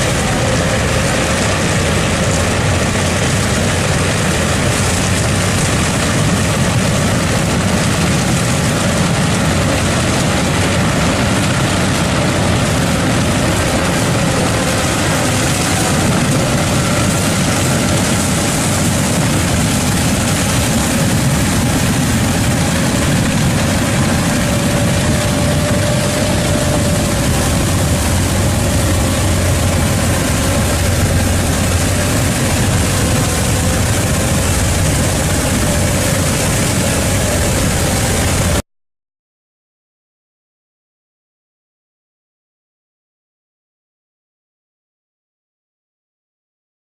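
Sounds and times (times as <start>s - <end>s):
heavy machine engine running: 0.0s - 38.6s.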